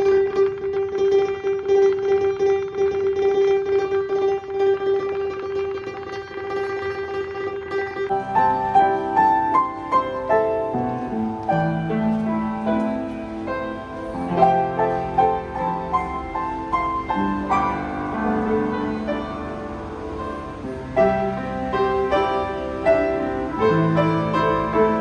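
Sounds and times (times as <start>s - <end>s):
upright piano playing: 0.0s - 25.0s.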